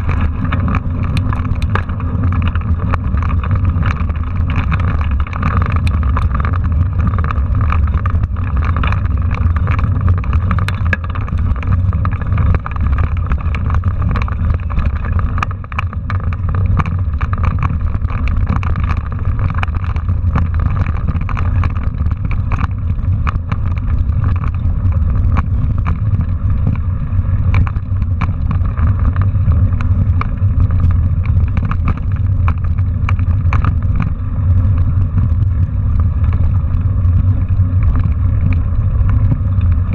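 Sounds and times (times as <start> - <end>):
bike clicks and rattles: 0.0 - 39.9
wind and road rumble: 0.0 - 39.9.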